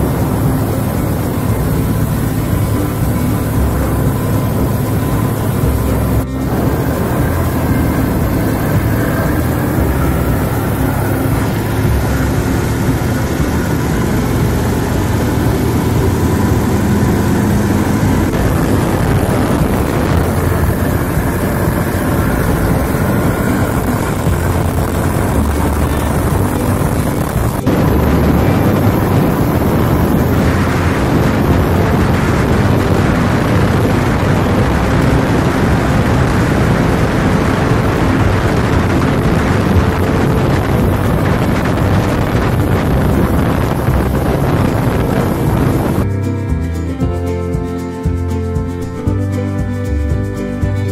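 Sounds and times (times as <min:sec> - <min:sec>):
boat motors droning: 0:00.0 - 0:50.9
water rushing under hulls: 0:00.0 - 0:50.9.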